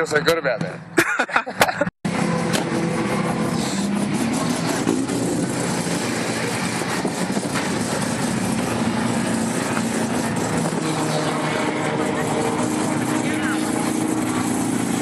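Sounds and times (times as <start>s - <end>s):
car engine idling: 2.1s - 15.0s.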